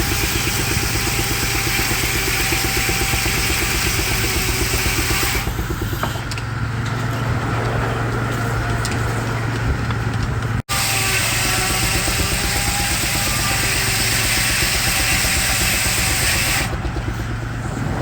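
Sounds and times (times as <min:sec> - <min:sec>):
steam engine running: 0:00.0 - 0:09.6, 0:10.8 - 0:18.0.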